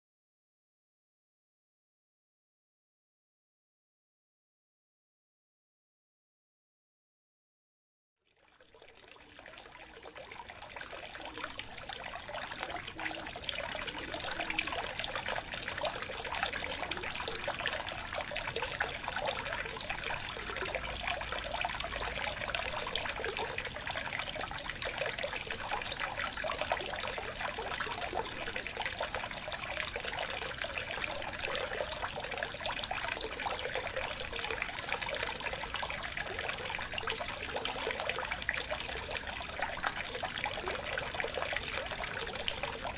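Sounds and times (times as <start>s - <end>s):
water trickling: 8.3s - 42.9s.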